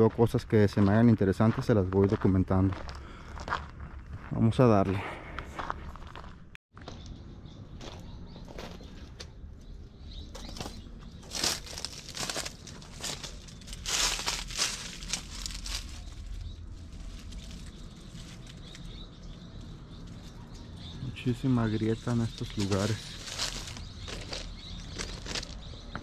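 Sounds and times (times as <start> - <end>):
footsteps crunching on rough ground: 0.0 - 7.0, 7.7 - 26.0.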